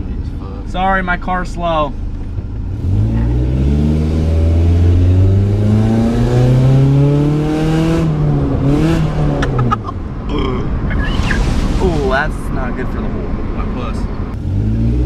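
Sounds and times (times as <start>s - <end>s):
car with loud exhaust accelerating: 1.5s - 15.0s.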